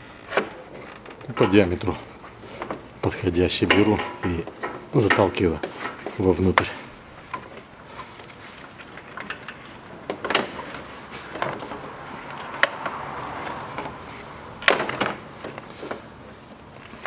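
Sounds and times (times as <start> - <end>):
dull knocks and rustles: 0.0 - 17.0.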